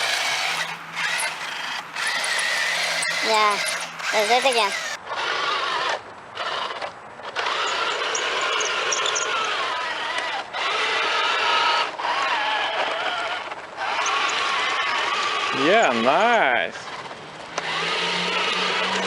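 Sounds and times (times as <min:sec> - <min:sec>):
toy tank electric motors whining: 0:00.0 - 0:19.0.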